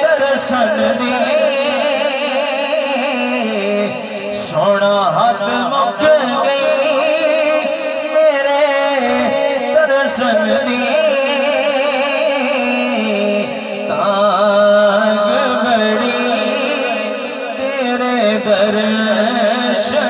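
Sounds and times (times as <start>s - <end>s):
person singing into microphone: 0.0s - 20.0s.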